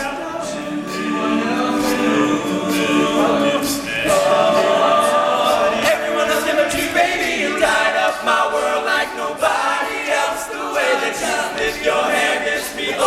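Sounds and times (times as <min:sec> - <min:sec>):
beatboxed vocal percussion: 0:00.0 - 0:13.0
male group singing chords: 0:00.0 - 0:13.0.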